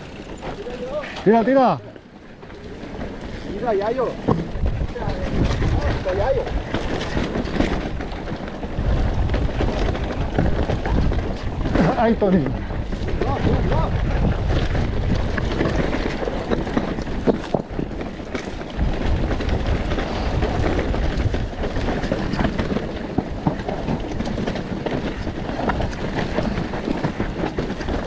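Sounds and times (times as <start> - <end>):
bike rattling on rough trail: 0.0 - 28.0
wind noise on microphone: 4.2 - 28.0.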